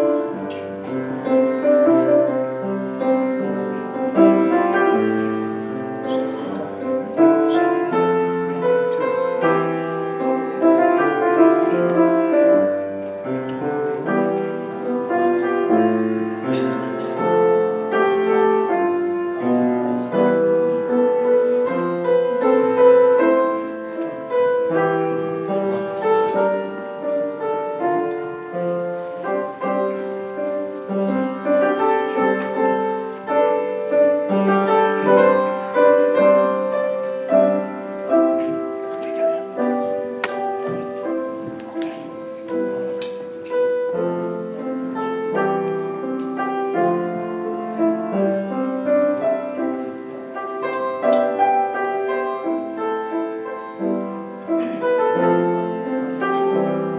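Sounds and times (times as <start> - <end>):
piano music: 0.0 - 56.9.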